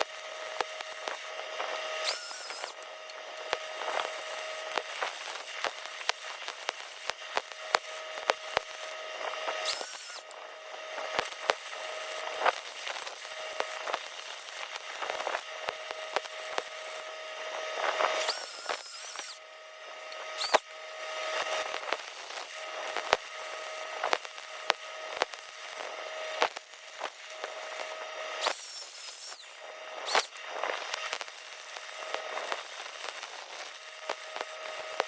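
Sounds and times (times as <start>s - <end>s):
electric arc welding crackle: 0.0s - 35.0s
steady hum: 0.0s - 35.0s.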